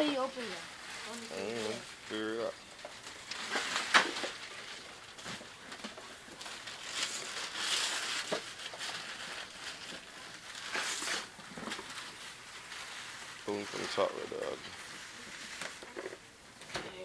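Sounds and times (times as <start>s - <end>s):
wrapping paper crinkling: 0.0s - 16.3s.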